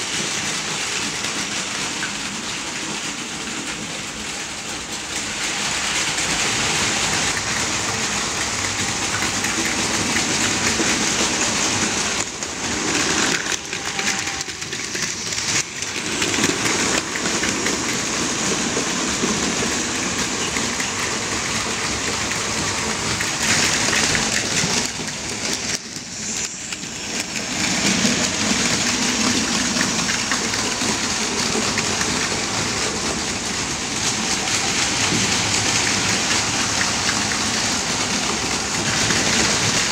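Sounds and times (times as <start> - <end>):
toy trains whirring and rattling: 0.0 - 39.9.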